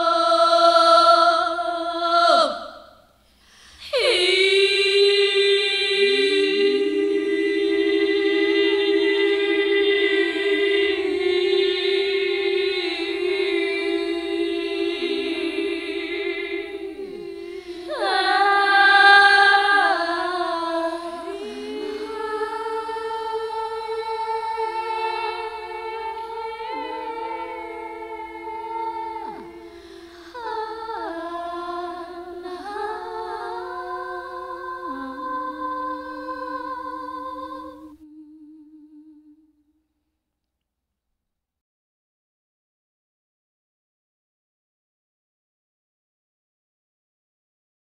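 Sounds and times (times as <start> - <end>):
a cappella voices singing: 0.0 - 39.6.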